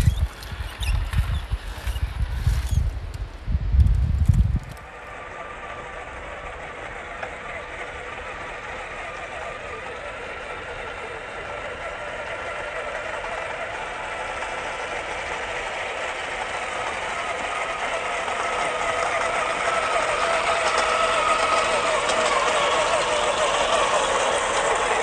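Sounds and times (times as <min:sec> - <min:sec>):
toy truck electric motor whining: 0:00.0 - 0:02.9, 0:03.9 - 0:25.0.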